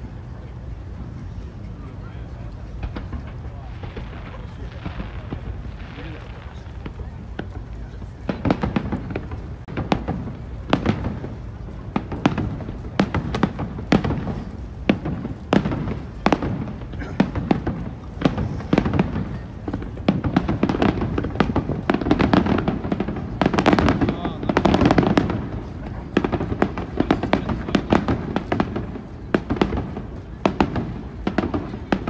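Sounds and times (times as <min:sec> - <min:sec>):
firework shells bursting: 0:02.7 - 0:32.0.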